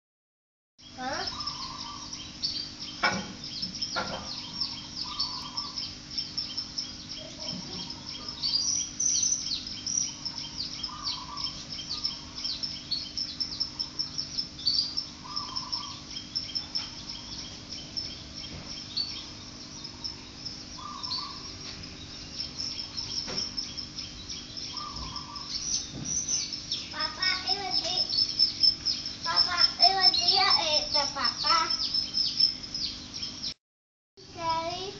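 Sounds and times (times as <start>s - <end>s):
birds chirping rapidly: 0.8s - 33.6s, 34.4s - 34.9s
faint steady hum: 0.8s - 33.6s
lower bird call: 0.9s - 3.0s, 3.6s - 33.1s.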